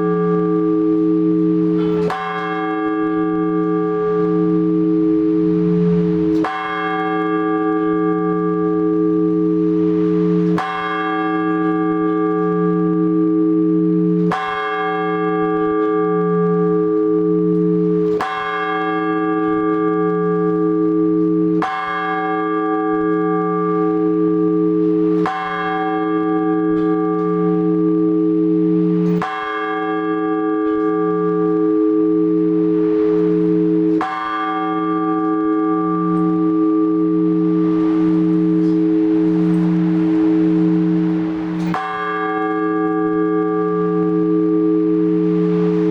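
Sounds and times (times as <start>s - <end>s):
large church bell strokes: 0.0s - 45.9s.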